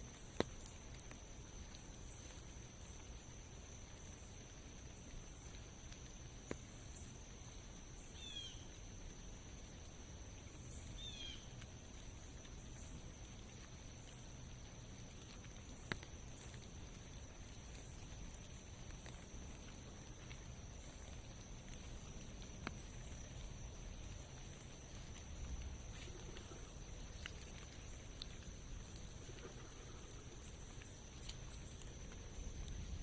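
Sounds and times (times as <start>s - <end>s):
light rain patter: 0.0s - 33.0s.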